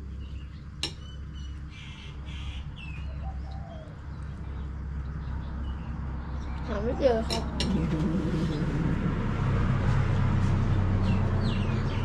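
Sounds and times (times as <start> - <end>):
birds chirping: 0.0 - 9.1, 10.6 - 12.0
steady low hum: 0.0 - 12.0.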